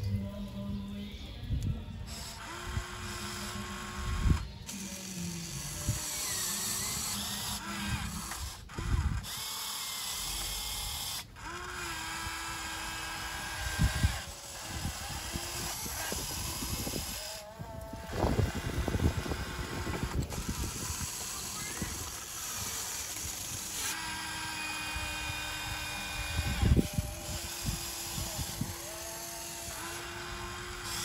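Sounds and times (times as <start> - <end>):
electric pump whining: 0.0 - 31.0.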